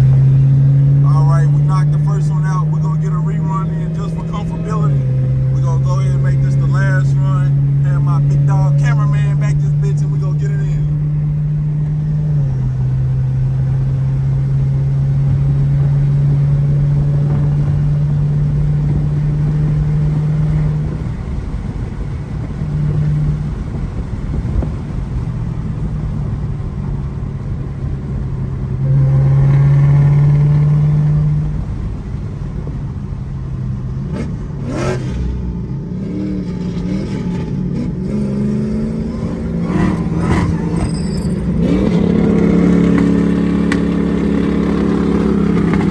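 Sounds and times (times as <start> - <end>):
car engines revving: 0.0 - 45.9.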